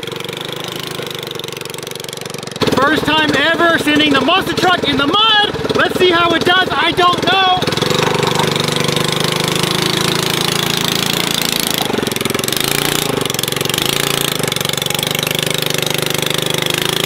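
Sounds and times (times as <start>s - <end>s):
small engine under load: 0.0s - 17.0s.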